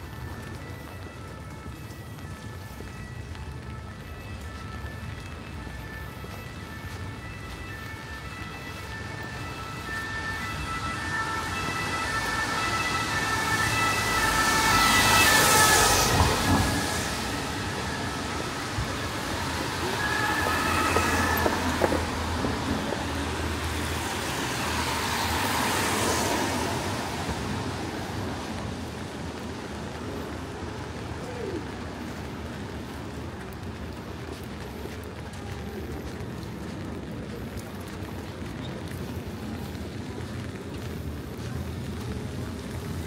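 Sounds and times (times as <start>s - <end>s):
distant two-tone siren: 0.0s - 43.0s
tyres hissing on wet road: 4.0s - 43.0s.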